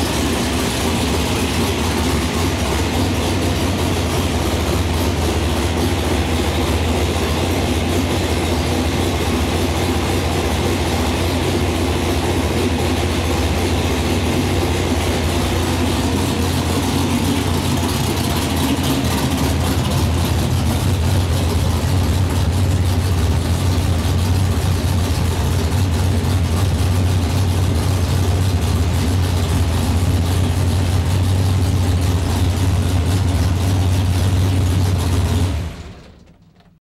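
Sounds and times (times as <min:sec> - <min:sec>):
engine idling: 0:00.0 - 0:36.8.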